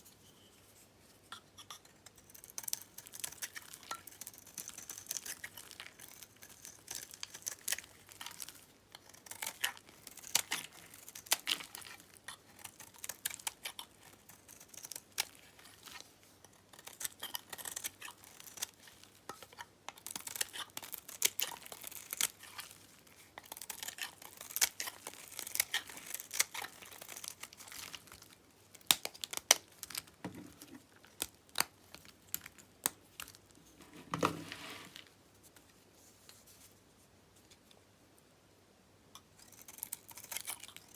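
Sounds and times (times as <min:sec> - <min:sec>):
knife cutting soap crackling: 0:01.6 - 0:35.1, 0:39.2 - 0:40.9.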